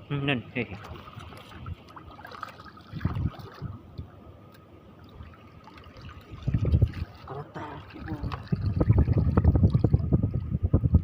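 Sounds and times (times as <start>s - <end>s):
seawater splashing and trickling: 0.3s - 11.0s.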